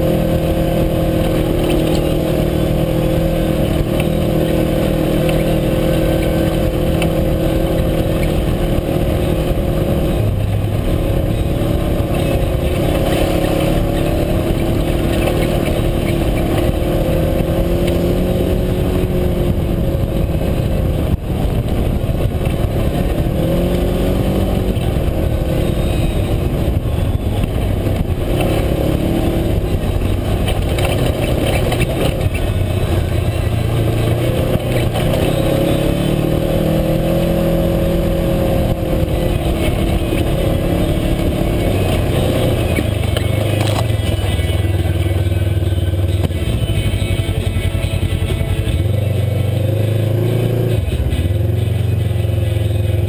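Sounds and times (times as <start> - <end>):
utv engine revving: 0.0 - 53.0.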